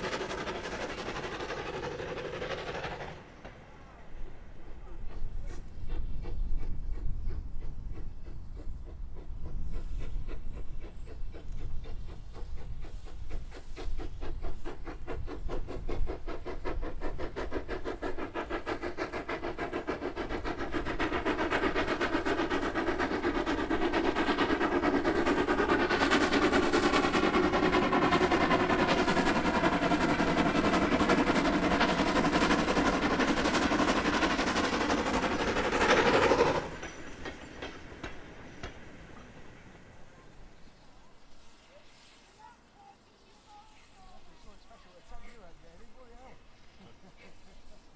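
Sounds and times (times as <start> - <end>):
steam locomotive exhaust beat: 0.0 - 47.9.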